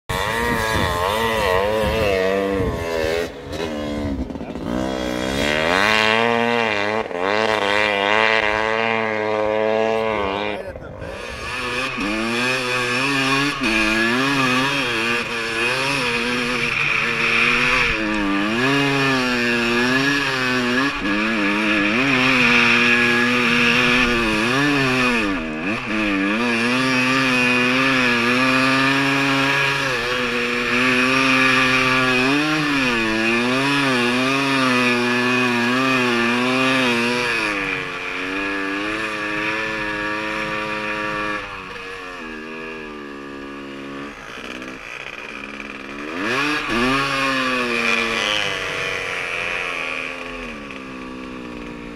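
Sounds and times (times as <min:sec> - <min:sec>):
snow bike engine revving: 0:00.0 - 0:51.9.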